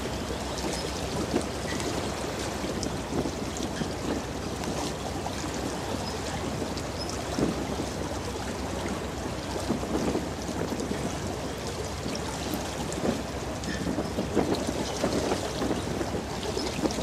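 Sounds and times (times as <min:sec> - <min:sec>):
bow wave rushing and splashing: 0:00.0 - 0:17.0.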